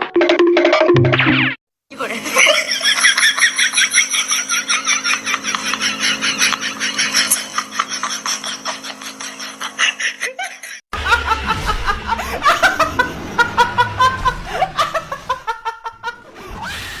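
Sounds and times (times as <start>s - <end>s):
people laughing: 2.0s - 16.4s.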